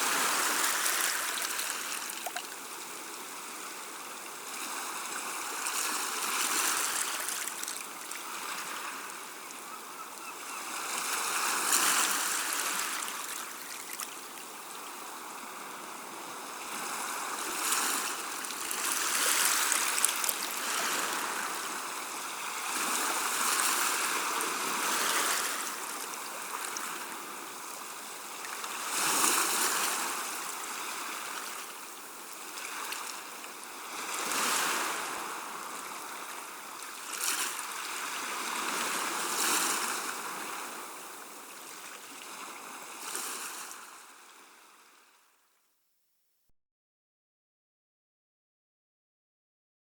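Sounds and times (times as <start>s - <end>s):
sea waves washing onto shore: 0.0s - 44.1s.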